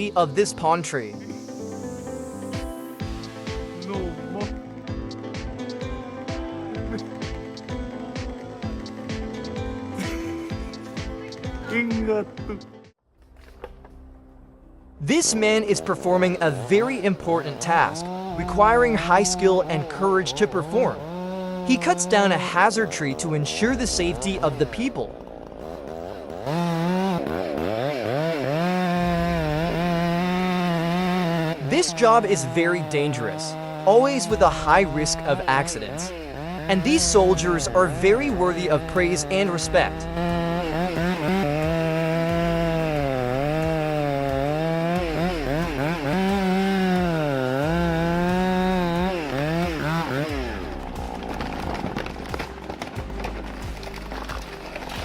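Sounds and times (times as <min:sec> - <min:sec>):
chainsaw engine revving: 0:01.4 - 0:11.8, 0:15.0 - 0:55.0.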